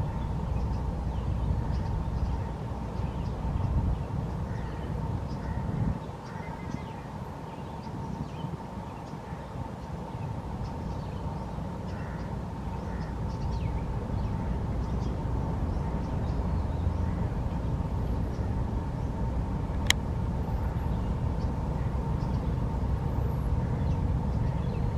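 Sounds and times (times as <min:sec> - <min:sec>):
faint hum: 0:00.0 - 0:24.9.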